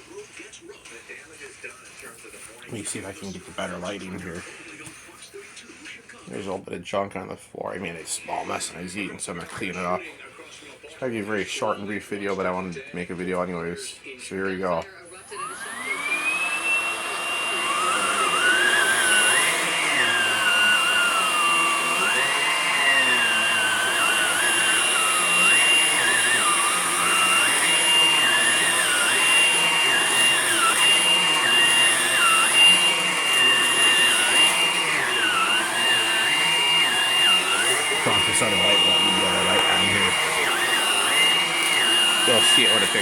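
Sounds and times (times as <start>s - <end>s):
vacuum cleaner motor whining: 0.0s - 6.6s, 7.7s - 10.0s, 10.6s - 43.0s.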